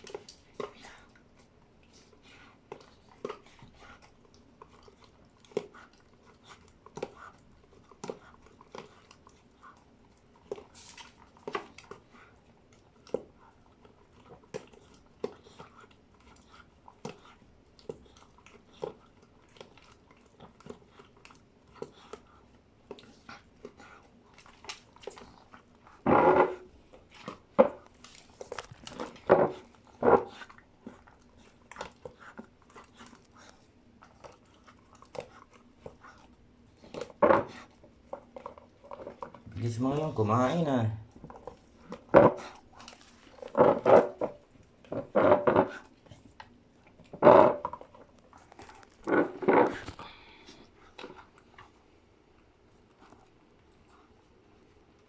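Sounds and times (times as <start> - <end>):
dog crunching food: 0.0 - 55.0.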